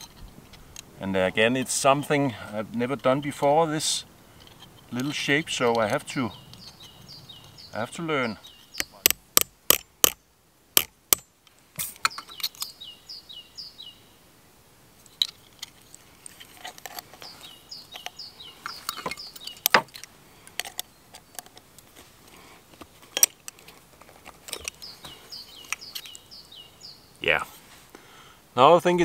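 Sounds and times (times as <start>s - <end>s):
songbird chirping: 0.0s - 29.0s.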